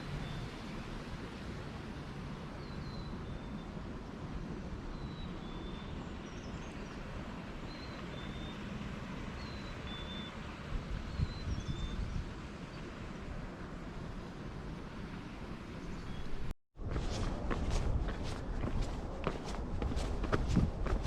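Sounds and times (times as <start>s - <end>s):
distant highway traffic rumble: 0.0s - 21.0s.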